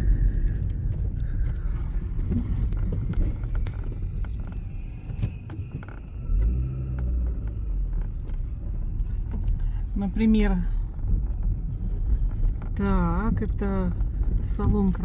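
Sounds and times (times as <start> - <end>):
car engine and road rumble: 0.0 - 15.0
low engine hum: 0.0 - 15.0.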